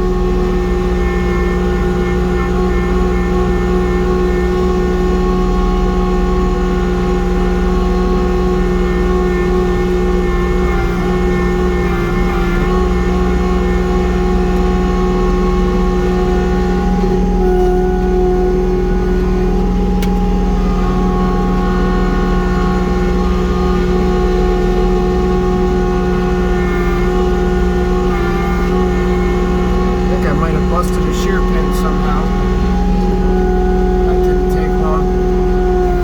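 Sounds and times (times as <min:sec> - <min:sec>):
snowblower drive whine: 0:00.0 - 0:36.0
tractor diesel engine under load: 0:00.0 - 0:36.0.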